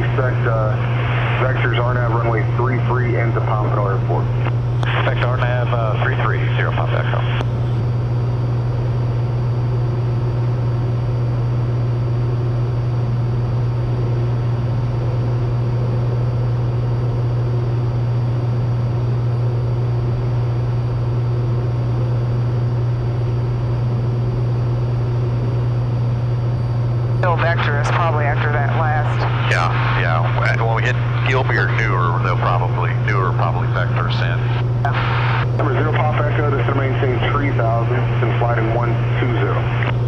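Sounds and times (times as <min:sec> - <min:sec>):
aircraft engine and propeller drone: 0:00.0 - 0:40.0.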